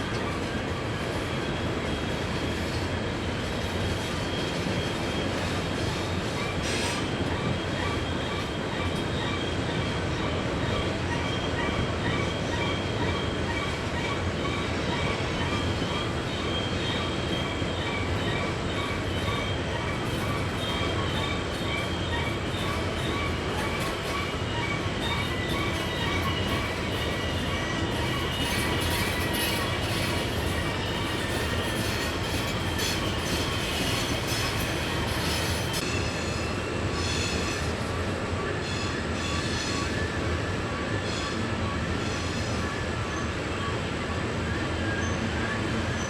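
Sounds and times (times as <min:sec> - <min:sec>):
freight train rumbling: 0:00.0 - 0:46.0
train wheels squealing: 0:00.0 - 0:46.0.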